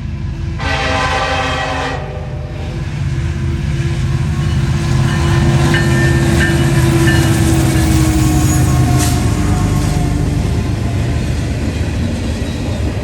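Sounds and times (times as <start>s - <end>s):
diesel locomotives droning: 0.0s - 13.0s.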